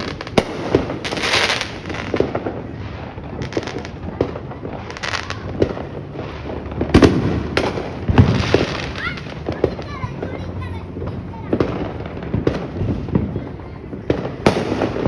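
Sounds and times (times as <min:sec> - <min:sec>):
fireworks bangs and pops: 0:00.0 - 0:15.0
fireworks crackling and hiss: 0:00.0 - 0:15.0.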